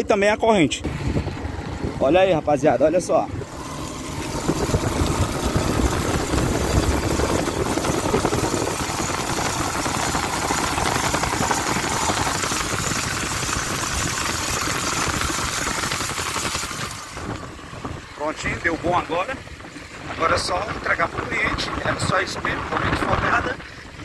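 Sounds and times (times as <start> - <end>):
motorcycle engine running: 0.7 - 24.0.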